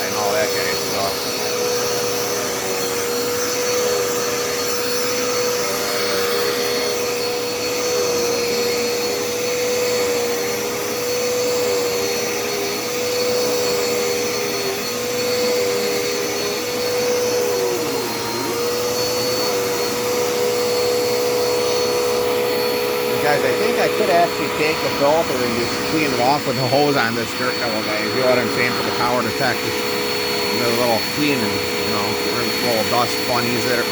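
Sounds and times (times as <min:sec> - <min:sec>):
upright vacuum running: 0:00.0 - 0:33.9.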